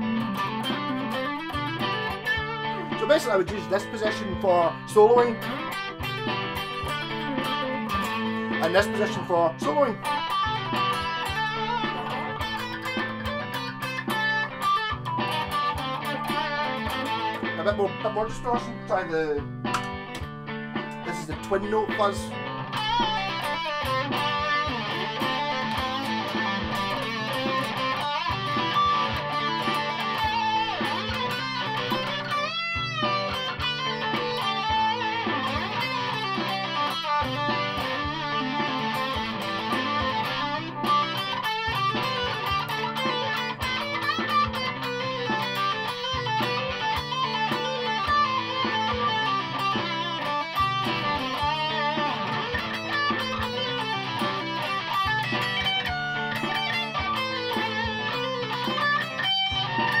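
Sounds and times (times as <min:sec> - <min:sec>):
distorted electric guitar: 0:00.0 - 1:00.0.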